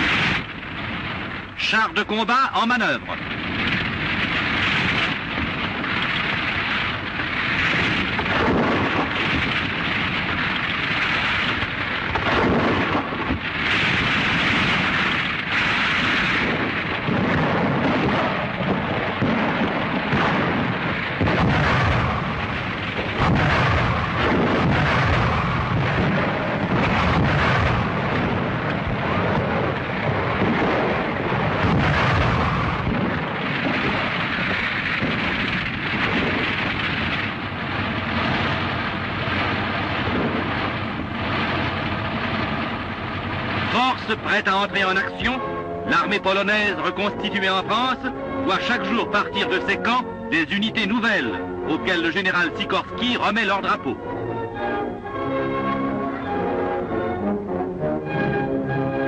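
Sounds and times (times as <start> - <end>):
tank engines and tracks rumbling: 0.0 - 59.0.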